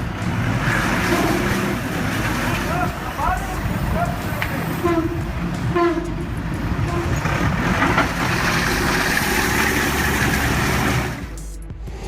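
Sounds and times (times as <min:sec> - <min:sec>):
harsh hissing: 0:00.0 - 0:12.0
heavy machine engine running: 0:00.0 - 0:12.0.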